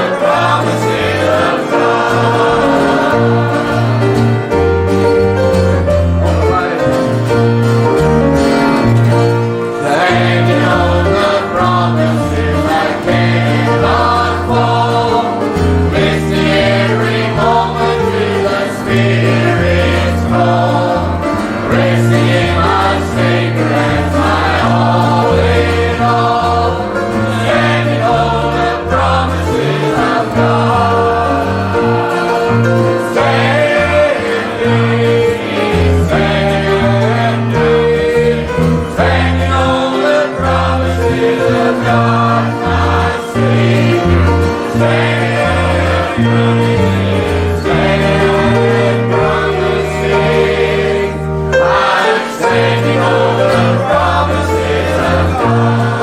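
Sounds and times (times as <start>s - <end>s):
choir singing gospel: 0.0s - 56.0s
instrumental accompaniment: 0.0s - 56.0s.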